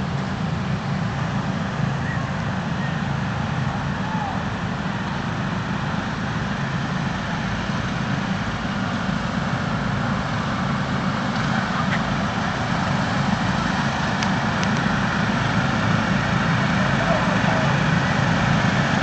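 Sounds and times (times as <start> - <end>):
lawn mower engines running: 0.0 - 19.0.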